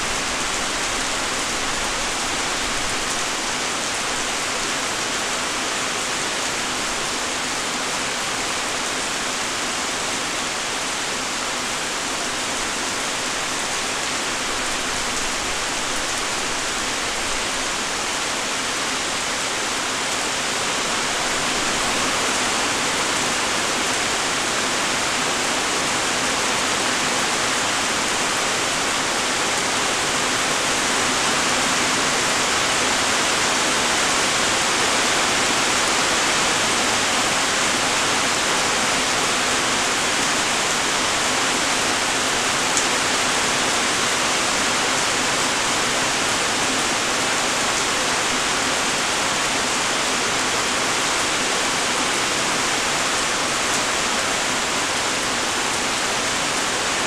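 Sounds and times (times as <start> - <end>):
light rain: 0.0 - 57.0.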